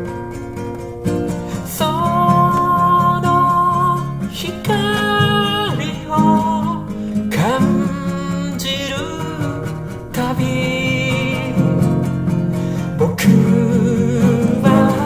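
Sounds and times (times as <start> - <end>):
classical guitar playing: 0.0 - 15.0
person singing slow melody: 1.6 - 12.0, 12.8 - 15.0.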